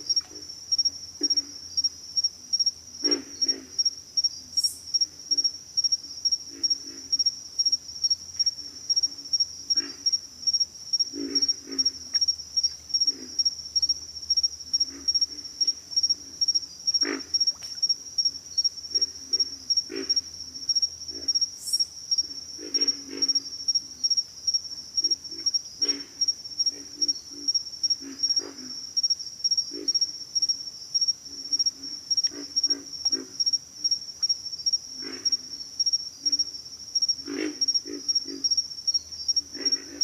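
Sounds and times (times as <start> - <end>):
frogs grunting: 0.0 - 1.9, 2.6 - 4.0, 6.5 - 7.7, 8.4 - 40.0
pulsing insect chorus: 0.0 - 40.0.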